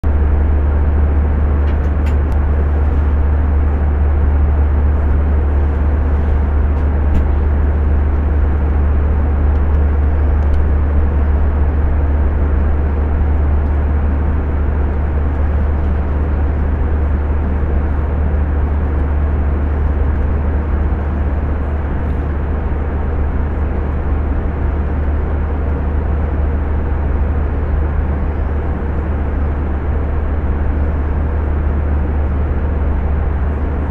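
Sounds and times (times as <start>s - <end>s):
jet airliner cabin rumble: 0.0s - 33.9s.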